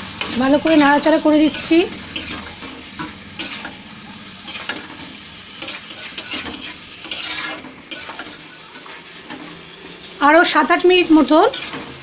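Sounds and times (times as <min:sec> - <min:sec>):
spatula scraping the pan: 0:00.0 - 0:10.0, 0:11.1 - 0:12.0
chicken sizzling in a pan: 0:00.0 - 0:12.0.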